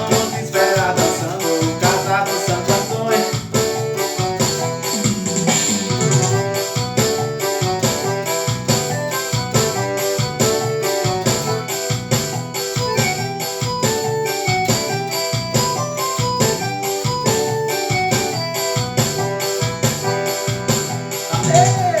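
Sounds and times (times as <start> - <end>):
keyboard melody with automatic rhythm: 0.0 - 22.0.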